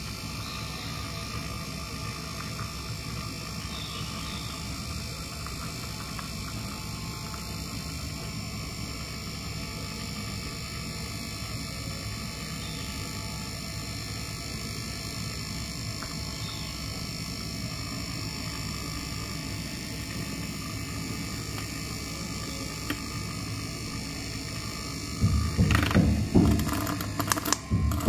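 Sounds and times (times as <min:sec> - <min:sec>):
milk frother whirring: 0:00.0 - 0:28.0.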